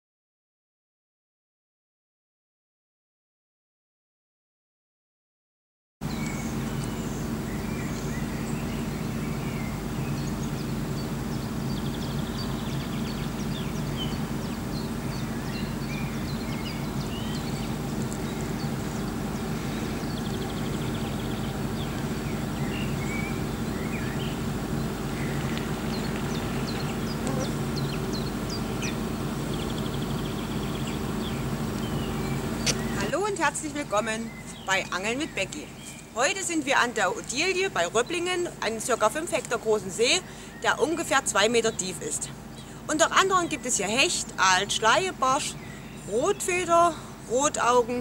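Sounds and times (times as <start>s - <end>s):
bird rapid trill: 6.0s - 46.8s
steady low drone: 6.0s - 47.3s
birds chirping and calling: 6.0s - 48.0s.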